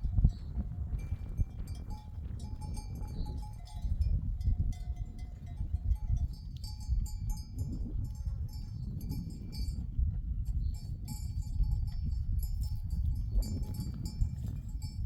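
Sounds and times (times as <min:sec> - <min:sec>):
sheep bells clinking: 0:00.0 - 0:15.0.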